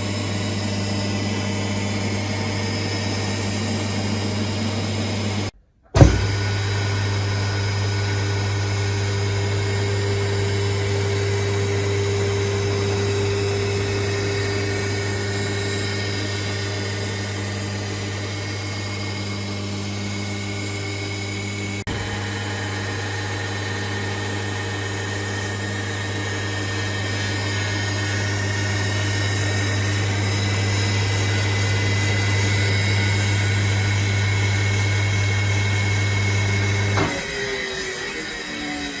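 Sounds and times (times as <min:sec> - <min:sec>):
electric water pump humming: 0:00.0 - 0:39.0.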